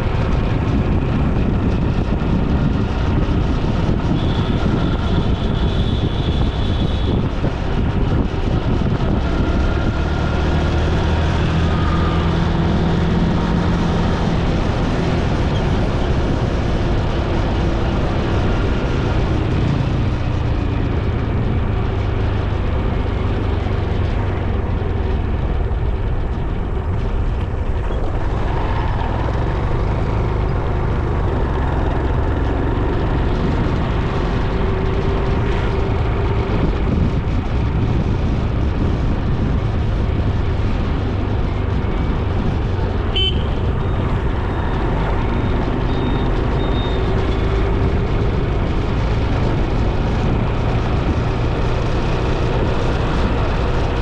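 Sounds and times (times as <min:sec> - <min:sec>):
road and wind noise: 0:00.0 - 0:54.0
vehicle running: 0:00.0 - 0:54.0.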